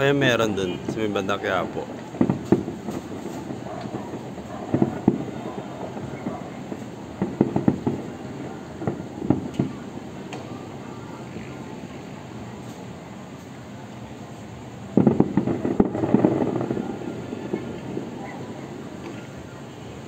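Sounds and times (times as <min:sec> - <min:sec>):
city hum: 0:00.0 - 0:20.0
distant fireworks bursting: 0:00.0 - 0:20.0.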